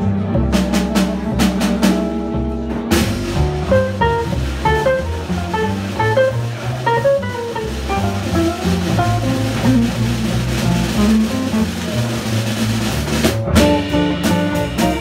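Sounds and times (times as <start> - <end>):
drum hits: 0.0 - 15.0
jazz band playing: 0.0 - 15.0
walking bass line: 0.0 - 15.0.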